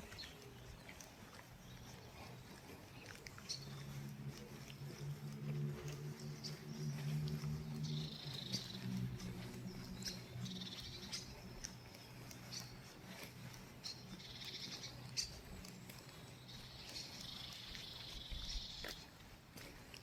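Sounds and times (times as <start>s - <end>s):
songbirds singing: 0.0s - 20.0s
low hum: 0.4s - 18.8s.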